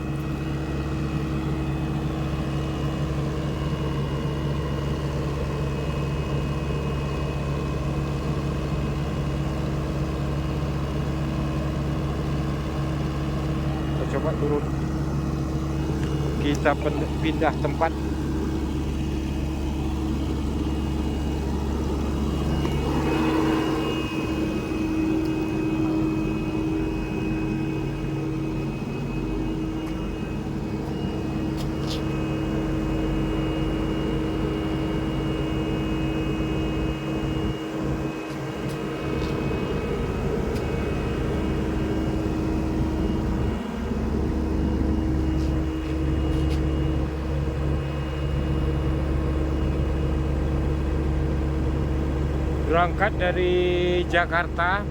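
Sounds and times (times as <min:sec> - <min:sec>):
excavator engine running: 0:00.0 - 0:54.9
hydraulics whine: 0:00.0 - 0:54.9.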